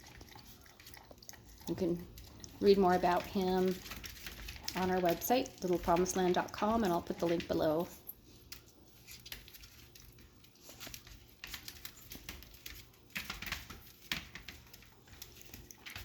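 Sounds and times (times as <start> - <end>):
puppies' claws clicking and pattering: 0.0 - 16.0.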